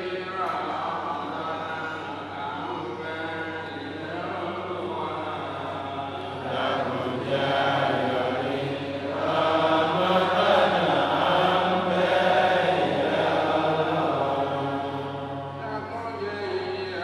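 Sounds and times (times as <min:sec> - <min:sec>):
men chanting in unison: 0:00.0 - 0:15.6.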